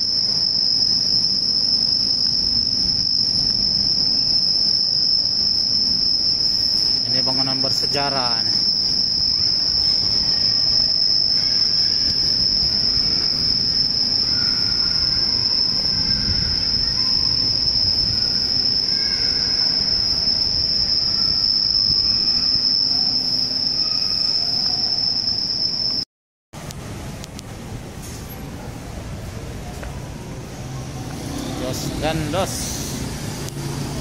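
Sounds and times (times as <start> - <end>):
high-pitched whine: 0.0 - 34.0.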